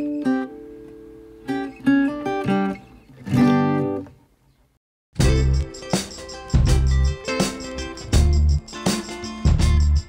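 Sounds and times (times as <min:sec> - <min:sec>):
acoustic guitar: 0:00.0 - 0:04.2, 0:05.2 - 0:10.0.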